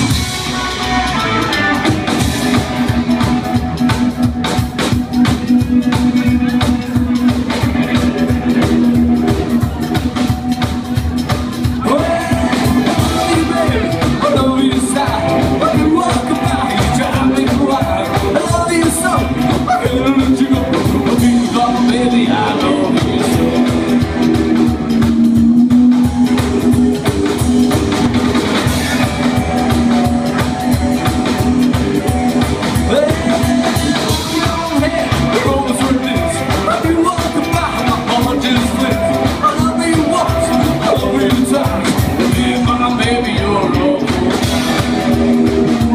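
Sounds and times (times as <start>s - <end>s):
drum kit: 0.0s - 45.9s
electric guitar: 0.0s - 45.9s
upright double bass: 0.0s - 45.9s.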